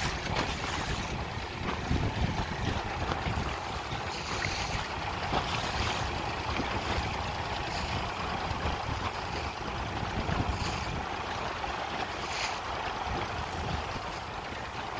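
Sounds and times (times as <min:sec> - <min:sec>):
choppy water splashing: 0:00.0 - 0:14.9
wind buffeting microphone: 0:00.0 - 0:14.9.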